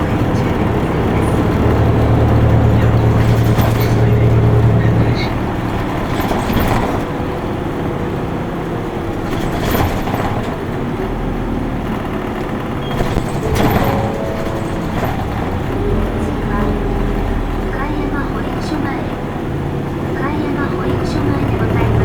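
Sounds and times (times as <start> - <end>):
bus diesel engine running: 0.0 - 22.0
road noise inside bus: 0.0 - 22.0.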